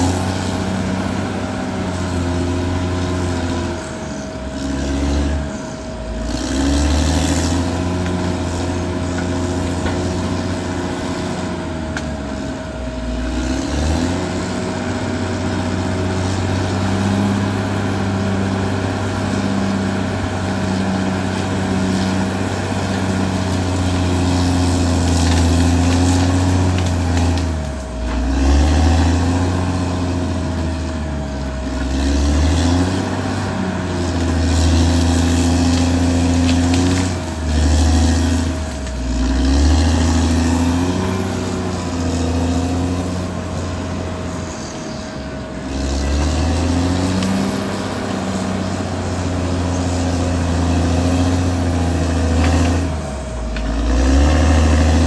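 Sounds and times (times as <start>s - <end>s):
bulldozer diesel engine working: 0.0s - 55.0s
high whine: 0.0s - 55.0s.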